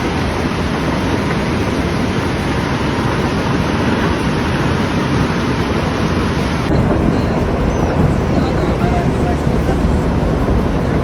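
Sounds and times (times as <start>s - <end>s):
wind and rain rushing: 0.0s - 11.0s.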